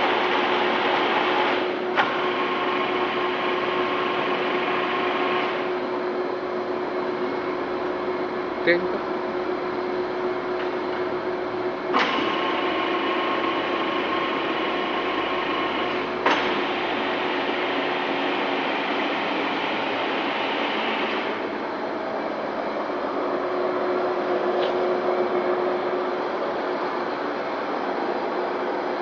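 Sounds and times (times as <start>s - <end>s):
milling machine humming: 0.0s - 29.0s.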